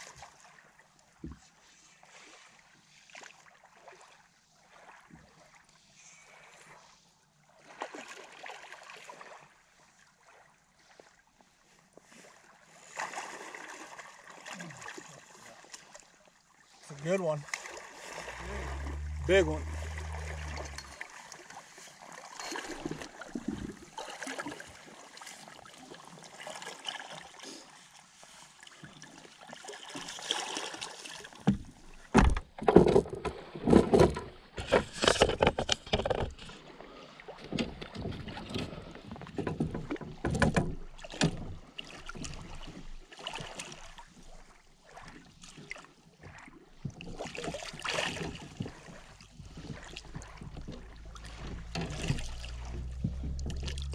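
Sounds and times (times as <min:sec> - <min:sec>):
water splashing around a net: 0:00.0 - 0:53.9.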